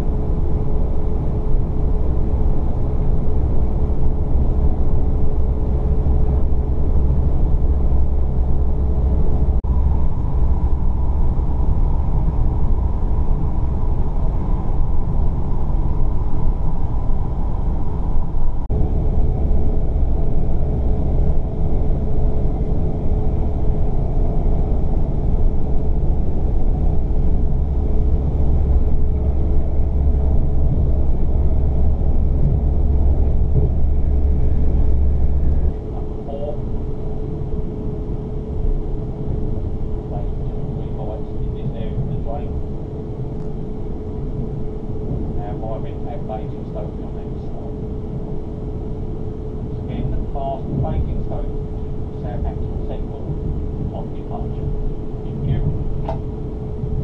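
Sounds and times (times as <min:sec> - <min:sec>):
steady train hum: 0:00.0 - 0:57.0
train wheels rumbling on track: 0:00.0 - 0:57.0.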